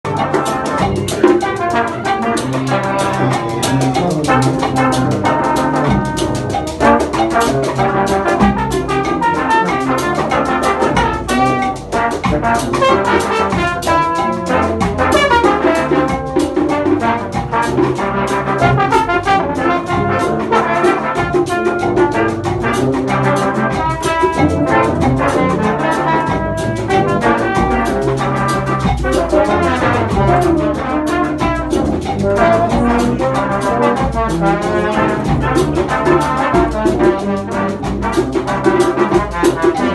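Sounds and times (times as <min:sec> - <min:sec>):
trumpets and trombone: 0:00.0 - 0:39.9
drums: 0:00.1 - 0:39.9.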